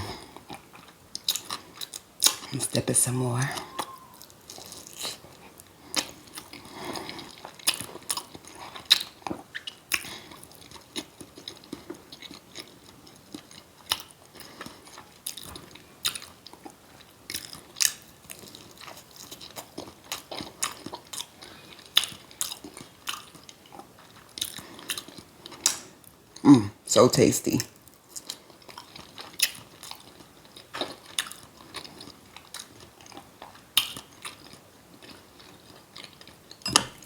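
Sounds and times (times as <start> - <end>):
close chewing with mouth smacking: 0.0 - 2.6, 3.5 - 26.5, 27.6 - 37.0.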